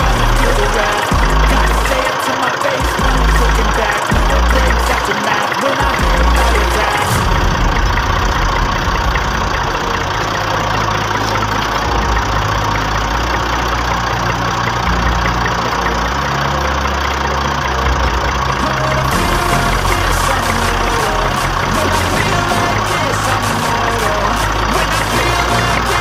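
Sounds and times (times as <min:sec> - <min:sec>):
tractor engine droning: 0:00.0 - 0:26.0.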